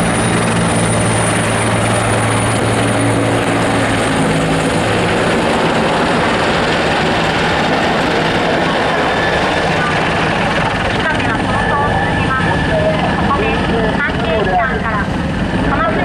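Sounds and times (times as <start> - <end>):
continuous rushing noise: 0.0 - 16.0
helicopter flying past: 0.0 - 16.0.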